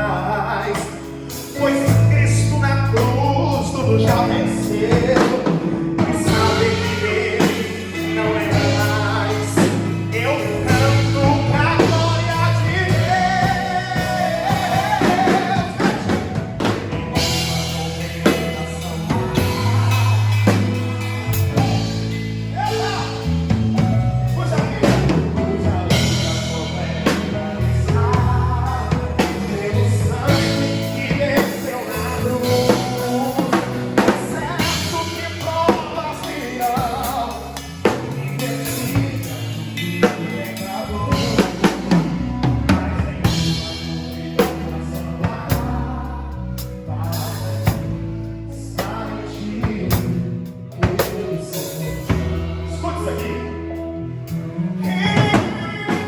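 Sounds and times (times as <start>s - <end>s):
drum kit beat: 0.0s - 53.4s, 54.3s - 56.0s
gospel band playing: 0.0s - 56.0s
person singing: 0.0s - 56.0s.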